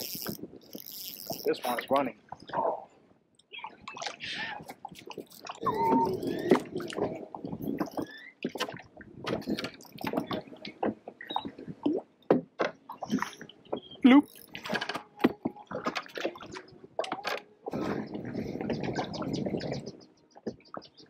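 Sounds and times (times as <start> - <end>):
water splashing and dripping: 3.5 - 21.0.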